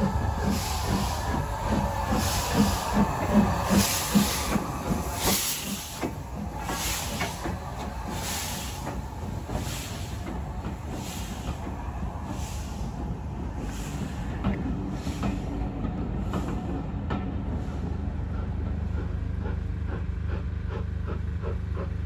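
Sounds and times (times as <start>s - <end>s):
steam locomotive exhaust chuffs: 0.0s - 22.0s
train rumbling on rails: 0.0s - 22.0s.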